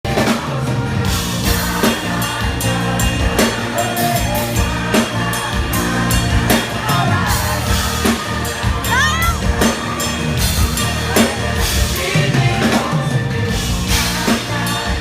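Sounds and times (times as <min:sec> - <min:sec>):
drum kit beat: 0:00.0 - 0:15.0
live band playing pop: 0:00.0 - 0:15.0.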